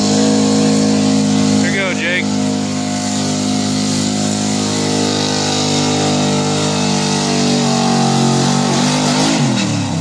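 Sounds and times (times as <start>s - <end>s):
tractor engine at high revs: 0.0s - 10.0s.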